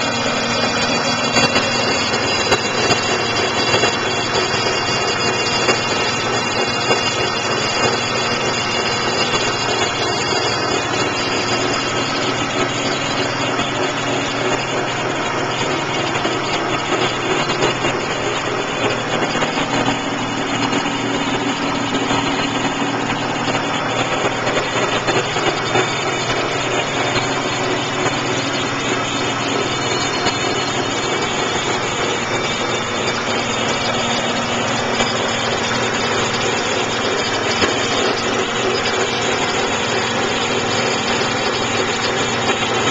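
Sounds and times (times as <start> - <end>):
car engine idling: 0.0 - 42.8.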